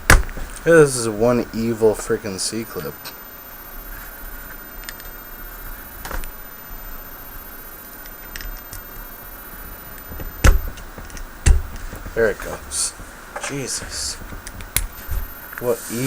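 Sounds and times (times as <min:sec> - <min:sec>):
steady low hiss: 0:00.0 - 0:16.0.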